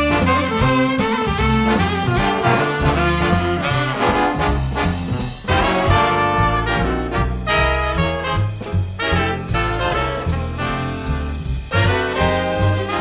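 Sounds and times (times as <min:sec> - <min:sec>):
swing music with brass: 0:00.0 - 0:13.0.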